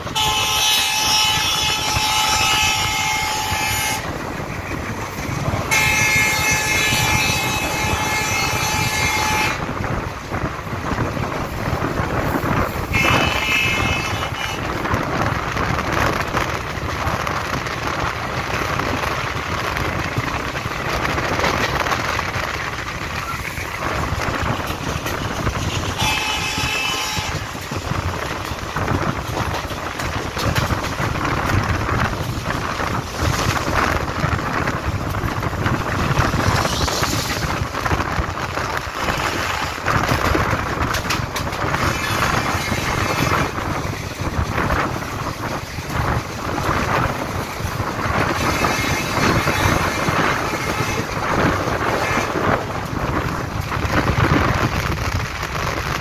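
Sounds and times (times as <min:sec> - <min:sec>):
passing goods train: 0:00.0 - 0:56.0
train wheels rumbling on rail: 0:00.0 - 0:56.0
wind on microphone: 0:00.0 - 0:56.0.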